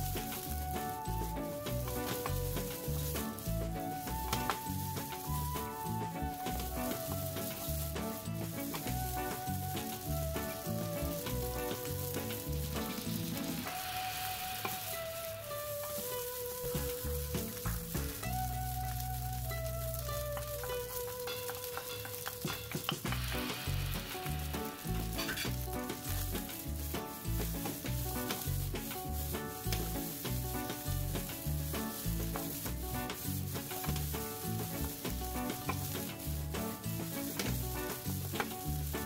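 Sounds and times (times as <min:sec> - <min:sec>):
music with steady bass beat: 0:00.0 - 0:13.6, 0:16.8 - 0:20.9, 0:22.9 - 0:39.0
wooden spatula scraping a pan: 0:00.0 - 0:18.2, 0:20.0 - 0:39.0
rice sizzling in a frying pan: 0:00.0 - 0:39.0.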